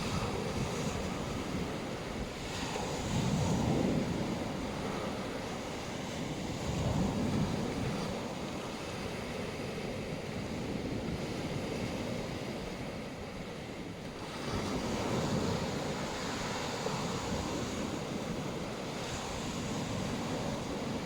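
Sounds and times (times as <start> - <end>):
waves washing onto shore: 0.0 - 21.0.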